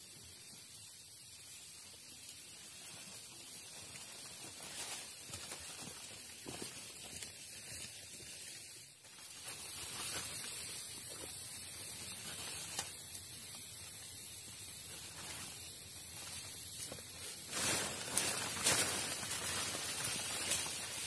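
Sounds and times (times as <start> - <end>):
rainforest background hiss: 0.0 - 21.0
leafy branches rustling: 2.5 - 13.5, 14.1 - 21.0.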